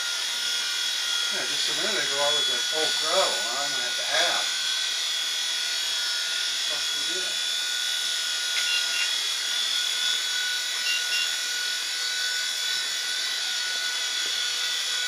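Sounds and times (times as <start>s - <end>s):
rc helicopter motor whining: 0.0s - 15.0s.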